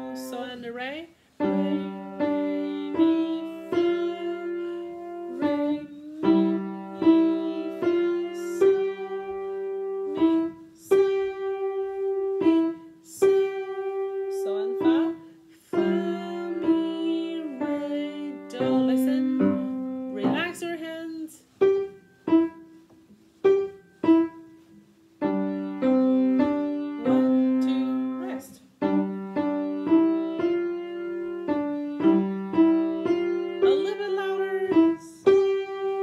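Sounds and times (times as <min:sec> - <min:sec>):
slow piano melody: 0:00.0 - 0:00.6, 0:01.3 - 0:36.0.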